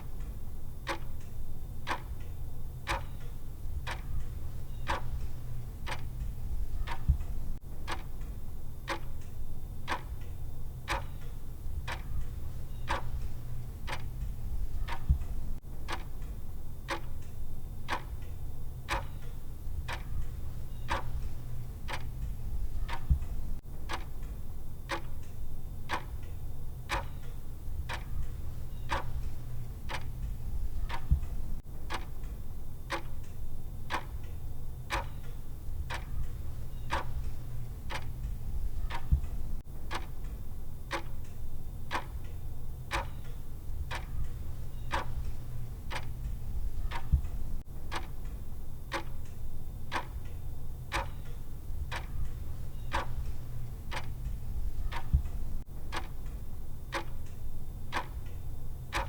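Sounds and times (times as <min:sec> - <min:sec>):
clock ticks: 0:00.0 - 0:59.0.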